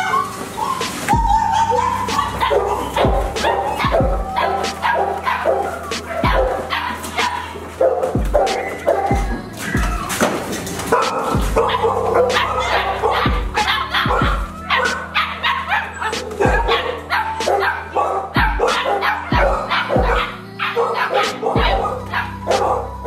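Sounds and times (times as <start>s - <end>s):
background music with bass hits: 0.0s - 23.0s
puppies yipping and barking: 0.0s - 23.0s.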